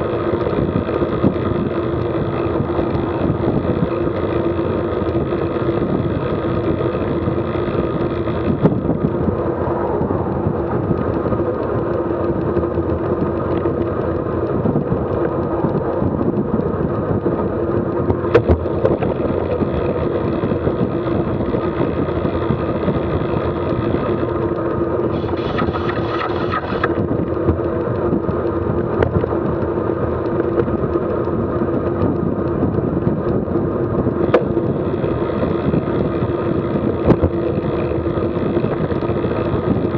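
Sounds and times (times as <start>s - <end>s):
bicycle tyres on pavement: 0.0s - 39.9s
wind buffeting microphone: 0.0s - 39.9s.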